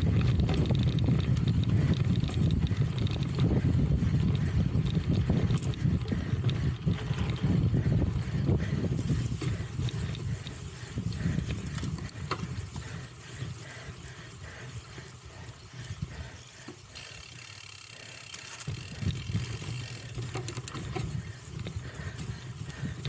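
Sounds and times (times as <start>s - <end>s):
freewheel ratcheting: 0.0s - 13.4s, 16.1s - 23.0s
bike rattling and clicking: 0.0s - 23.0s.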